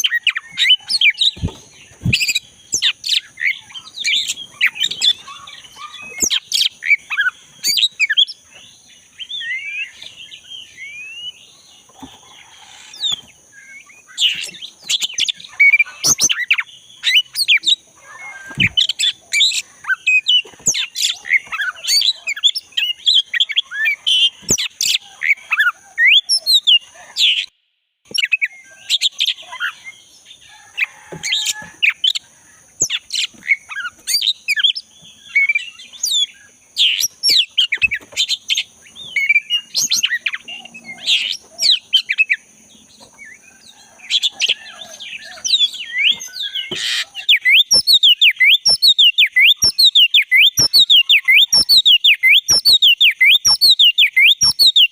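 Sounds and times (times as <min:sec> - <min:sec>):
bird singing chirps and whistles: 0:00.0 - 0:08.4, 0:09.1 - 0:11.4, 0:12.8 - 0:27.5, 0:28.1 - 0:30.0, 0:32.8 - 0:42.4, 0:44.1 - 0:54.9.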